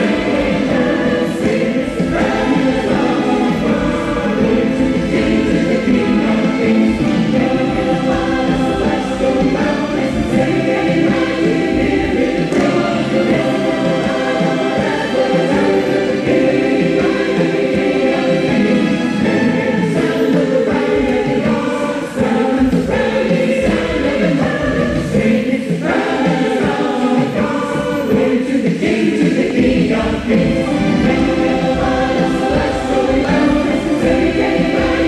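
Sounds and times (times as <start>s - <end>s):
choir singing: 0.0s - 35.0s
instrumental backing music: 0.0s - 35.0s.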